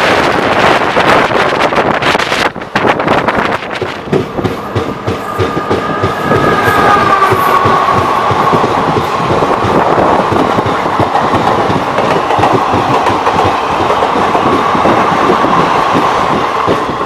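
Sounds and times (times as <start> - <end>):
train wheels clattering over rail joints: 1.2 - 17.0.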